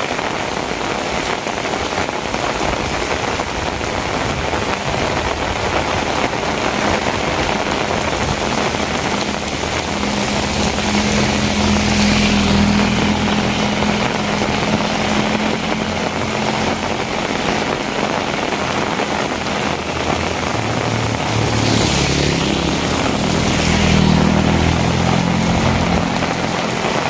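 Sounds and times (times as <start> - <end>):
steady rain falling: 0.0 - 27.0
vehicle engine running: 2.8 - 27.0.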